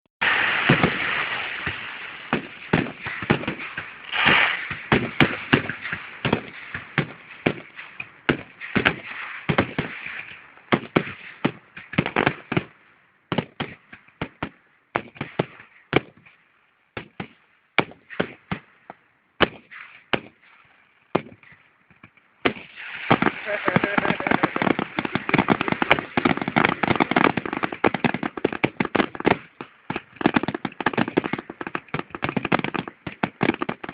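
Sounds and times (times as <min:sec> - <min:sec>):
fireworks popping and banging: 0:00.2 - 0:33.9.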